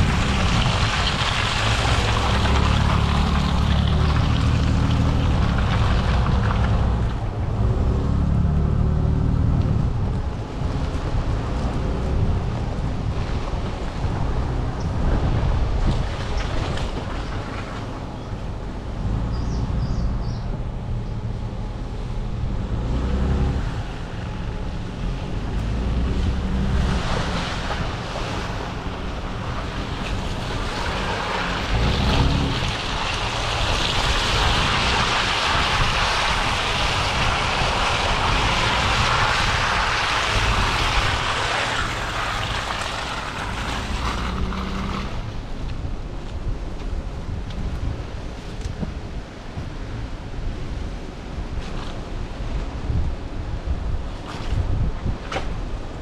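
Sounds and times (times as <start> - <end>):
pickup truck engine rumble: 0.0 - 56.0
wind noise on microphone: 0.0 - 56.0.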